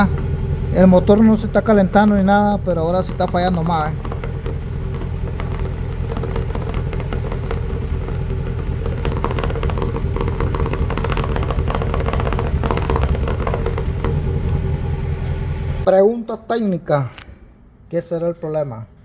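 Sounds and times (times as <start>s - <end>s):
engine running rough and misfiring: 0.0s - 15.9s.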